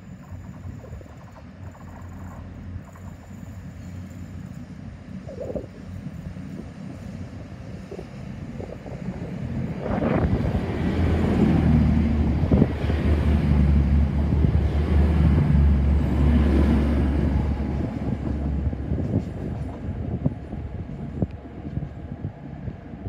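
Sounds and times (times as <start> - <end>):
diesel engines droning: 0.0 - 23.0
train rushing past: 0.0 - 23.0.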